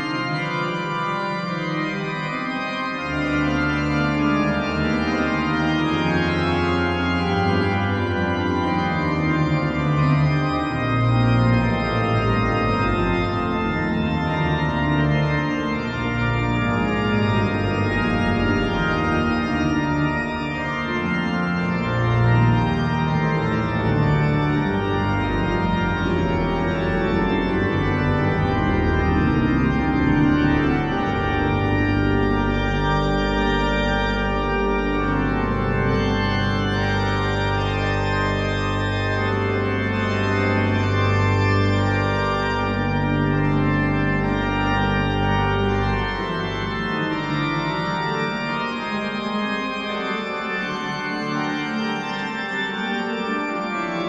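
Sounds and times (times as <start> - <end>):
church organ playing held chords: 0.0 - 54.0.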